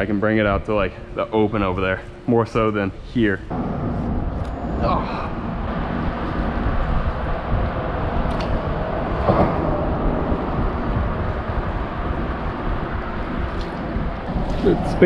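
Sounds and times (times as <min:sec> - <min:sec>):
traffic rumble on bridge overhead: 0:00.0 - 0:15.0.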